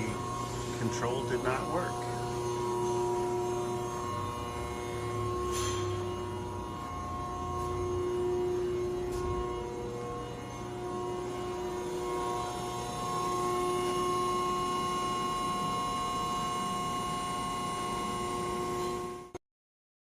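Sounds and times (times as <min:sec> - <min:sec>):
hydraulic pump humming: 0:00.0 - 0:19.3.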